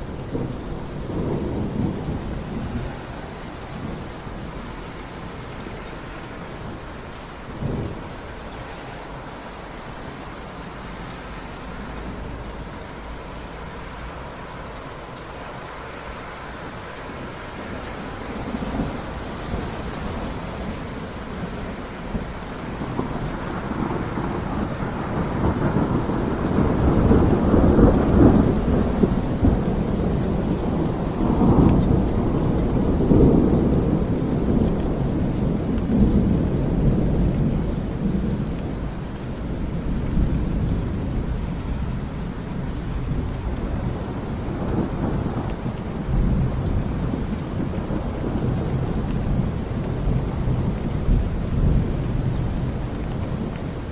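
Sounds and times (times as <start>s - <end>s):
deep roll of thunder: 0.0s - 14.9s, 16.6s - 53.9s
steady rain: 0.0s - 53.9s.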